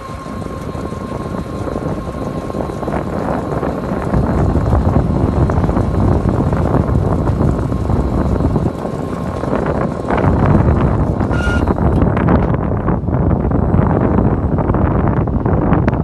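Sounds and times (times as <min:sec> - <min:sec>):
baler machinery running: 0:00.0 - 0:16.0
faint steady whine: 0:00.0 - 0:16.0.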